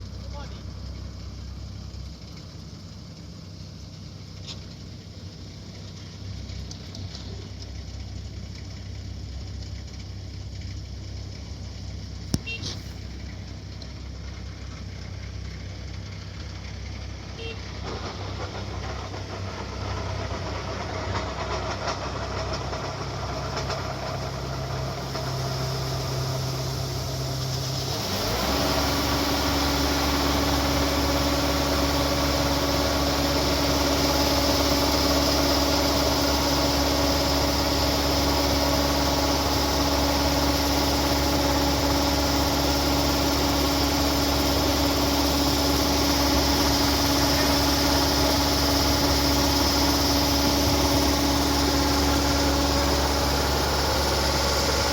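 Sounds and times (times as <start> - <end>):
harvester engine running: 0.0 - 54.9.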